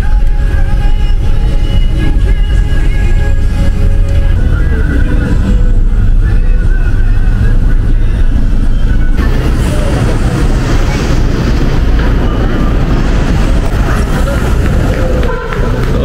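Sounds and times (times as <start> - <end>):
road noise: 0.0 - 16.0
van engine rumble: 0.0 - 16.0.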